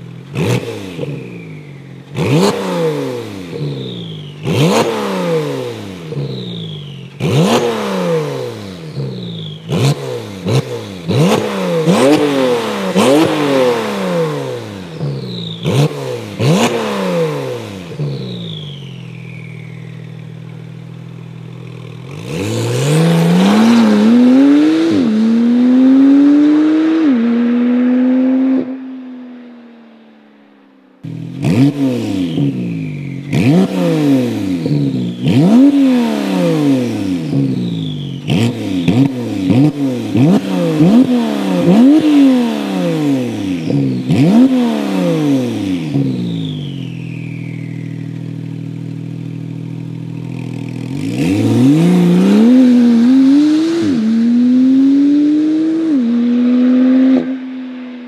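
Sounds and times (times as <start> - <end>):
sports car engine revving: 0.0 - 29.0, 31.0 - 57.9.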